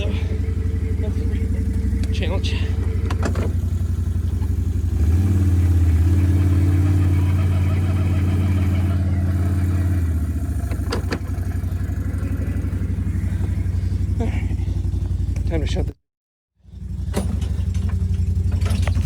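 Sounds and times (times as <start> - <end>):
vehicle engine idling and revving: 0.0 - 16.0, 16.6 - 19.0.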